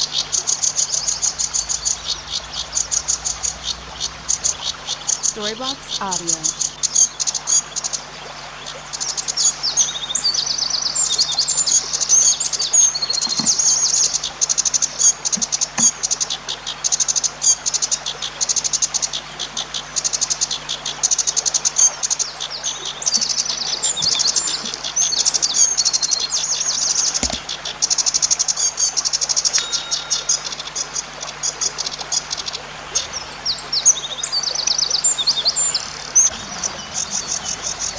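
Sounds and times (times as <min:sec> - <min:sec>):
bird singing high ticking notes: 0:00.0 - 0:37.9.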